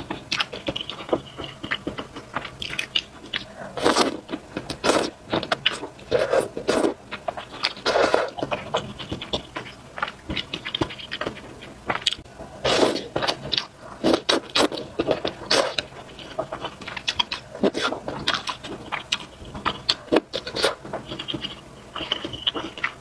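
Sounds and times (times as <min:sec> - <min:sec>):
slurping and chewing noodles: 0:00.0 - 0:23.0.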